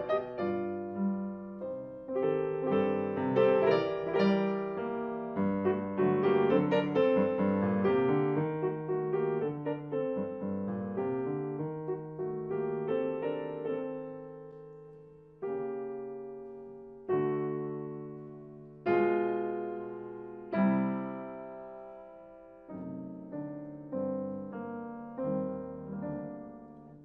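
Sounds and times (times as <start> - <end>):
grand piano playing classical piece: 0.0 - 27.0.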